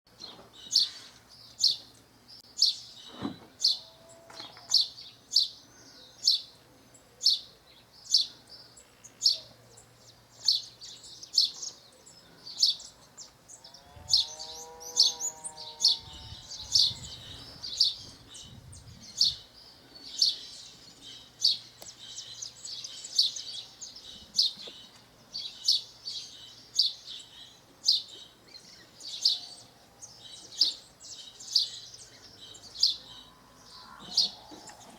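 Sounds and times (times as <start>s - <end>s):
sparrow chirping: 4.6s - 34.9s.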